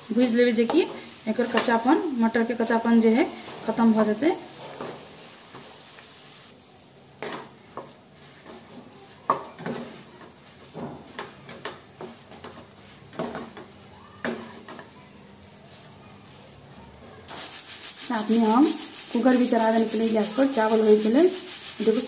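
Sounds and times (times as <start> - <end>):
faint sizzle: 0.0 - 22.0
wooden spatula scraping frying pan: 0.1 - 6.5, 7.2 - 22.0.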